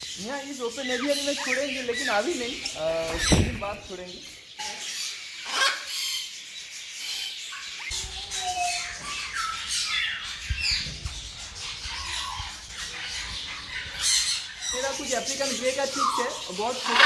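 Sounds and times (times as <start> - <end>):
parrots squawking and chirping: 0.0 - 17.0.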